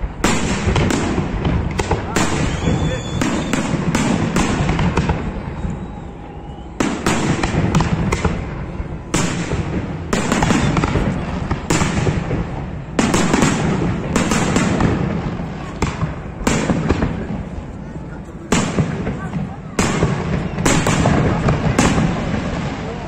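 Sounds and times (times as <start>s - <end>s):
firework crackling: 0.0s - 23.0s.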